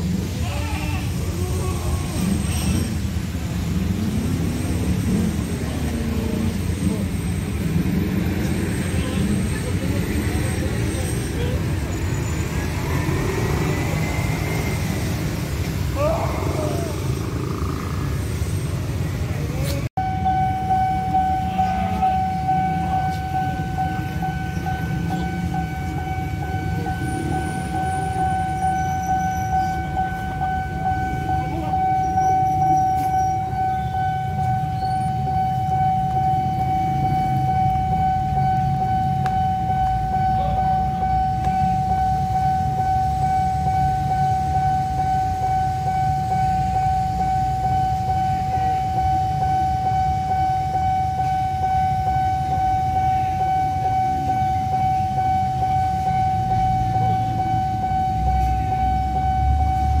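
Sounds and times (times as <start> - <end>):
level-crossing warning alarm: 2.1 - 19.2, 19.9 - 60.0.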